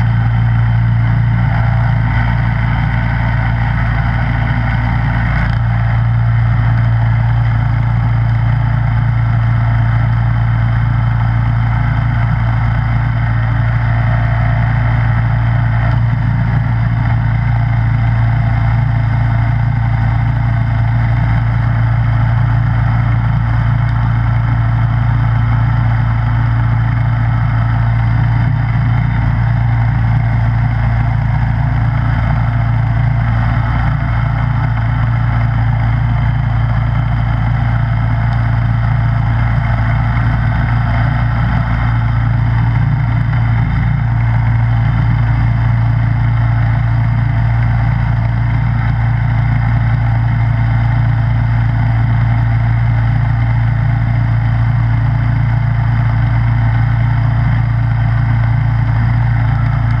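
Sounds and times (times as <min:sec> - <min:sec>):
snowblower engine humming: 0:00.0 - 1:00.0.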